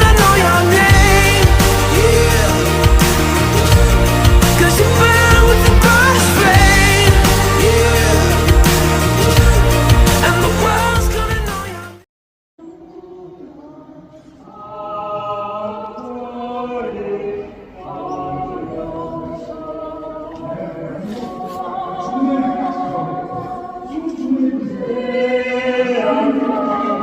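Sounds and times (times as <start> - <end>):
voices singing long held notes: 0.0 - 12.0, 12.7 - 27.0.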